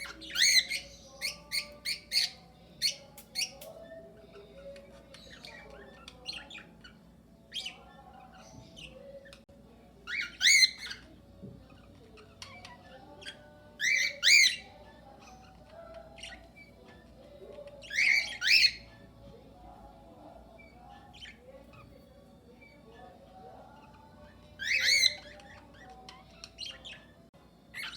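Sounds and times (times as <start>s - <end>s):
small bird chirps: 0.0s - 27.9s
soft bird chatter: 0.0s - 27.9s.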